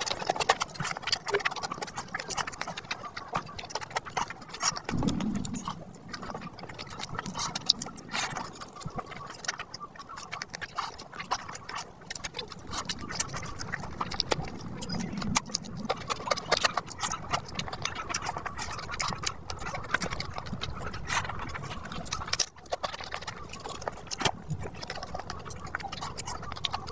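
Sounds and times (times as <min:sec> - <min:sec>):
chewing with wet mouth clicks: 0:00.0 - 0:26.9.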